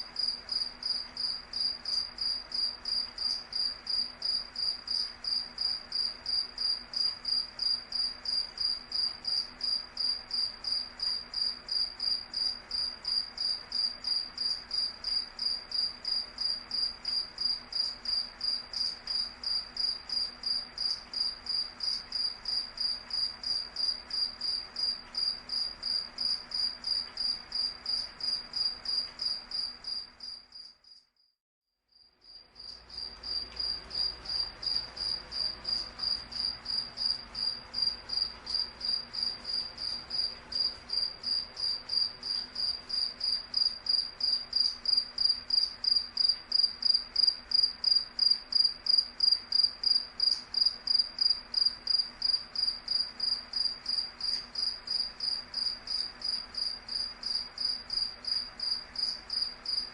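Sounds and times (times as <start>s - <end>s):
cricket chirping: 0.1s - 31.3s, 31.9s - 59.9s.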